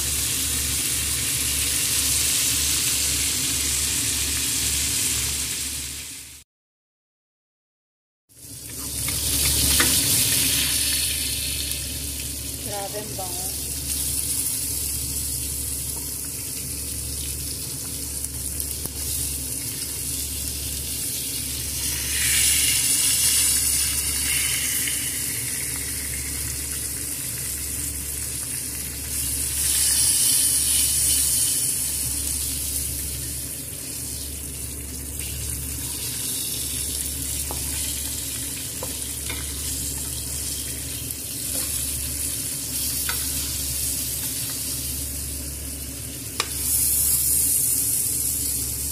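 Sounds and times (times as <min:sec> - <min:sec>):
steak sizzling in a pan: 0:08.4 - 0:48.9.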